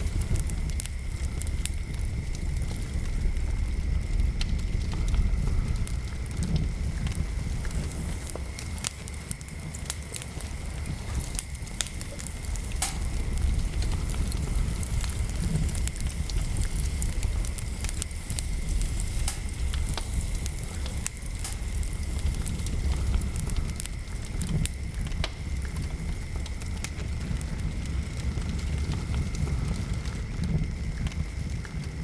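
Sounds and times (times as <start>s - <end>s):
low rumble: 0.0s - 31.3s
wood fire crackling and popping: 0.0s - 32.0s.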